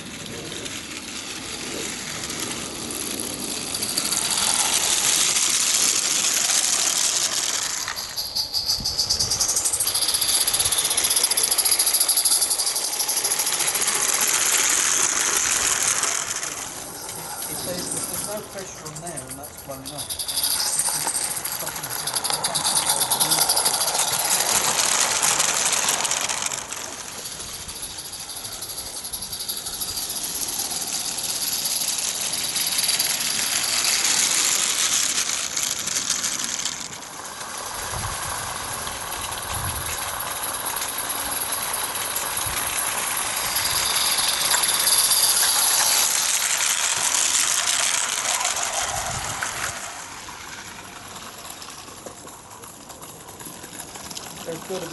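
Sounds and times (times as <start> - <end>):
steam locomotive hissing: 0.0 - 52.6.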